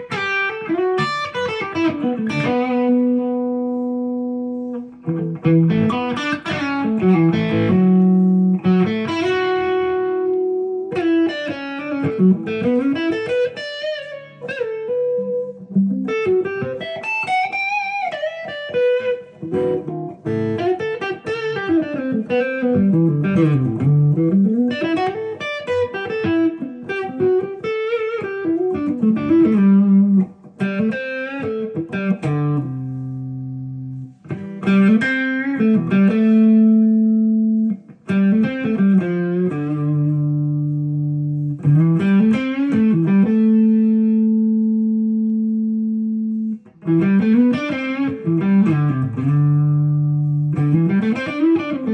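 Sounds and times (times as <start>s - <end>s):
electric guitar playing: 0.0s - 51.9s.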